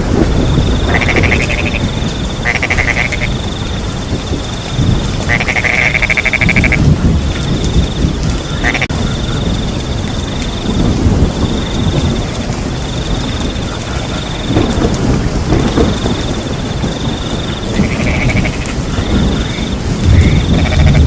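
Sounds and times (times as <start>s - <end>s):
cricket chirping: 0.0s - 21.0s
frogs croaking: 0.0s - 21.0s
steady rain: 0.0s - 21.0s
thunder rumble: 0.0s - 21.0s.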